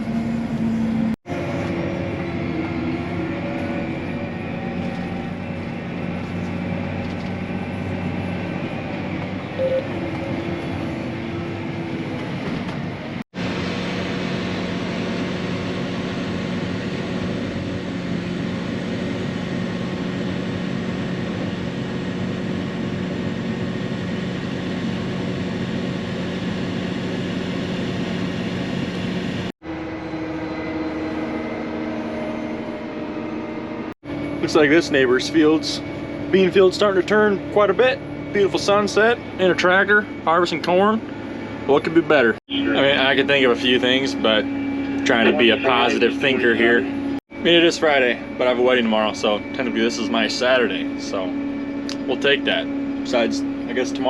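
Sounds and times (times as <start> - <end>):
farm machinery engine droning: 0.0 - 54.0.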